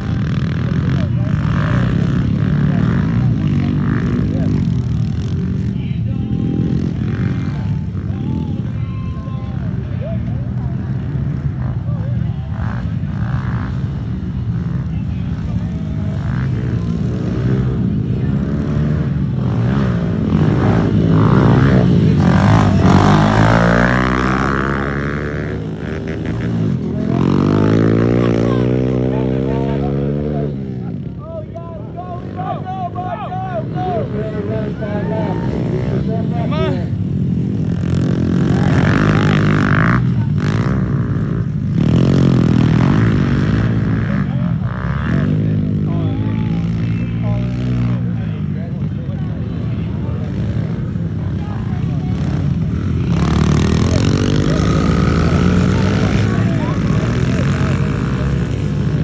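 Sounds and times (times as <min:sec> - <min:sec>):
pit bike engines racing: 0:00.0 - 0:59.0.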